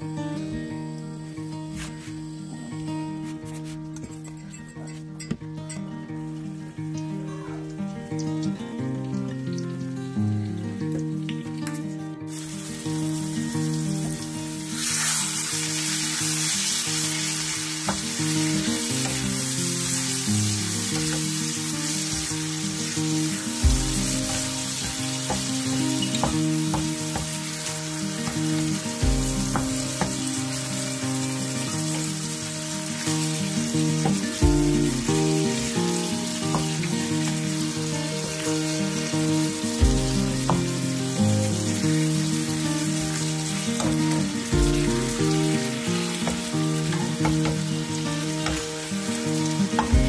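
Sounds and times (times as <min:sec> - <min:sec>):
background music: 0:00.0 - 0:50.0
food sizzling in a frying pan: 0:00.0 - 0:50.0.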